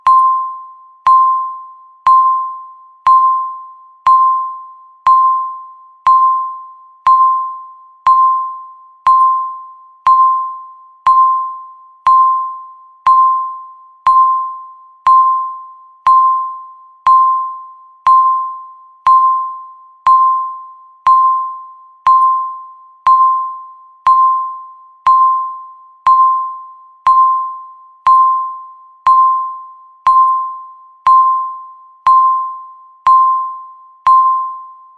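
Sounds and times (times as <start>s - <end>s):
countdown timer beeping: 0.0s - 34.8s.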